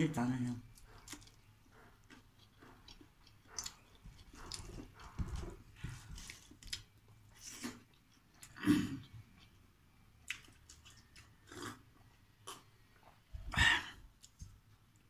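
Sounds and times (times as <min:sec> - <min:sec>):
person chewing food: 0:00.6 - 0:15.0.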